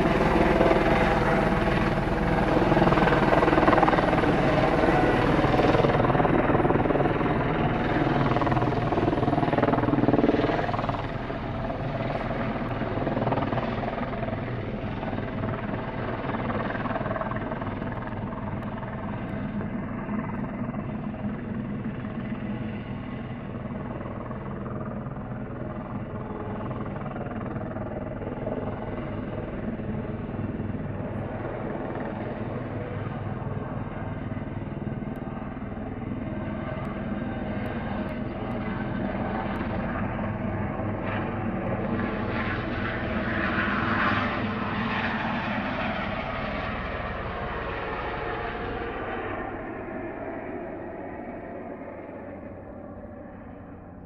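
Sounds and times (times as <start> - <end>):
helicopter rotor and turbine: 0.0 - 54.0.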